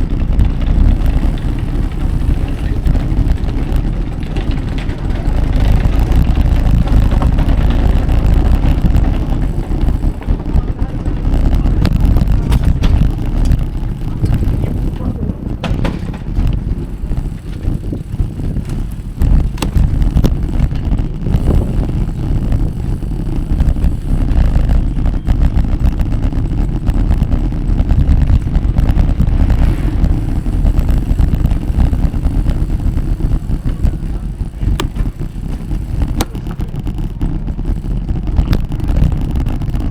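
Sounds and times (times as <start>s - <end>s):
road noise: 0.0s - 39.9s
wind rumbling on microphone: 0.0s - 39.9s.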